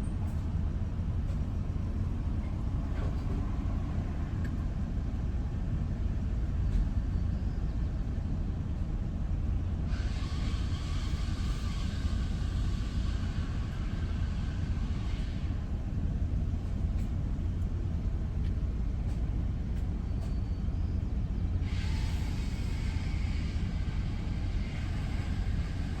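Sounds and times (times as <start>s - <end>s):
road and engine rumble in vehicle: 0.0s - 26.0s.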